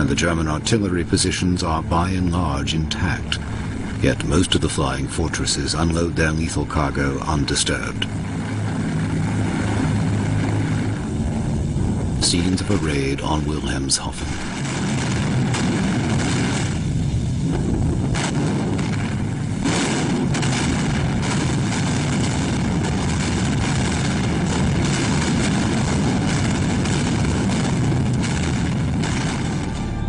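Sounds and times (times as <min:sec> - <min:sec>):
propeller plane engines droning: 0:00.0 - 0:30.0.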